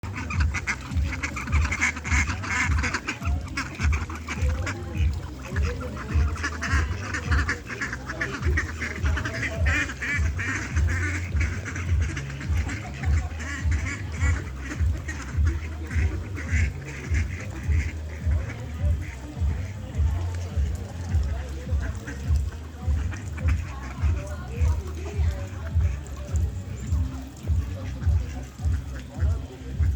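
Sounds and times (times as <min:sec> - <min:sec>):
waterfowl flock calling: 0:00.0 - 0:29.9.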